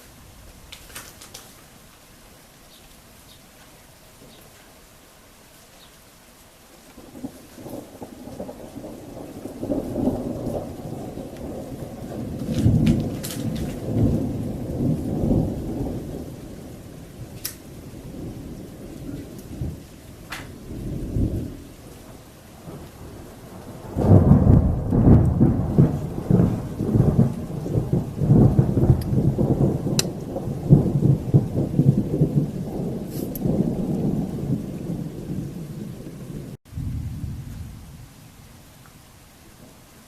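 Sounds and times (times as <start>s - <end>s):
rain falling: 0.0s - 40.0s
thunder rumbling: 6.9s - 40.0s.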